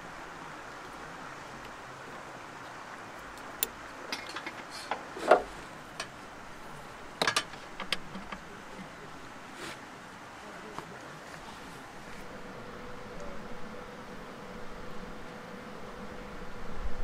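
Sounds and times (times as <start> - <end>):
creek rushing: 0.0 - 17.0.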